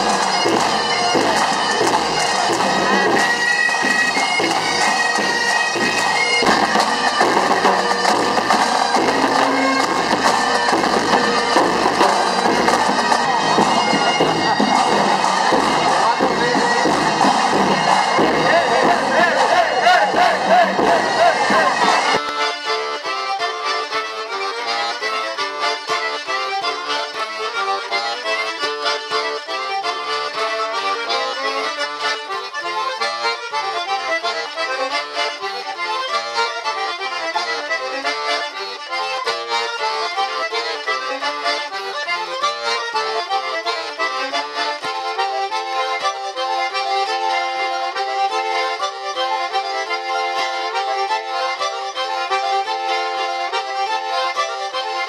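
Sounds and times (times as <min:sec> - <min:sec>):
accordion playing a tune: 0:00.0 - 0:55.0.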